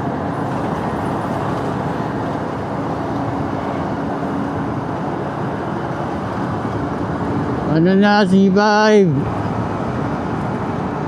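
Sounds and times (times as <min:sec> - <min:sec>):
road and ride noise: 0:00.0 - 0:11.0.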